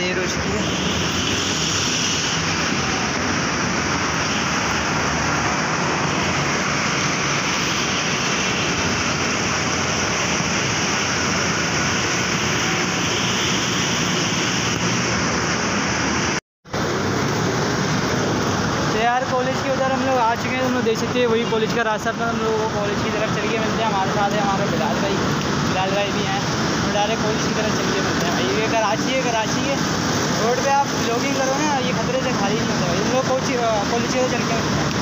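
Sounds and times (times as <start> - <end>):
road traffic rushing: 0.0 - 35.0.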